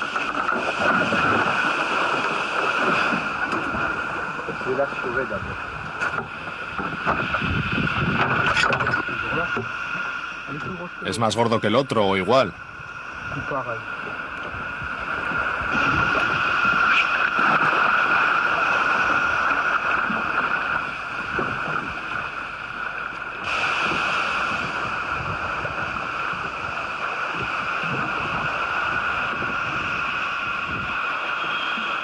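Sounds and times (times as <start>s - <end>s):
wind buffeting microphone: 0.0s - 10.0s, 12.5s - 31.6s
sea water sloshing and splashing: 0.0s - 32.0s.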